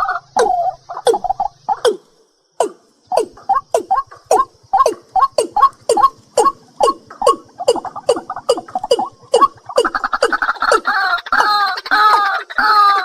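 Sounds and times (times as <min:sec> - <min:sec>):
bird calling short notes: 0:00.0 - 0:12.2.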